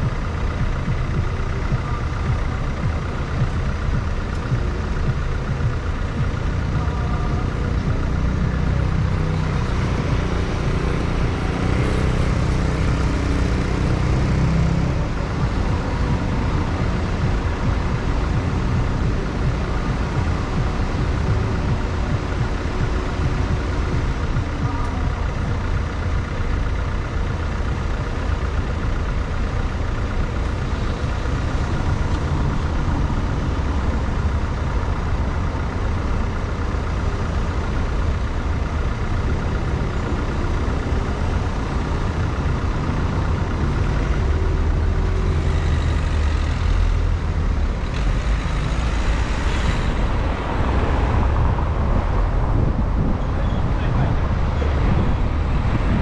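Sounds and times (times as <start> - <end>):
car engine and road noise: 0.0 - 56.0
surrounding traffic: 0.0 - 56.0.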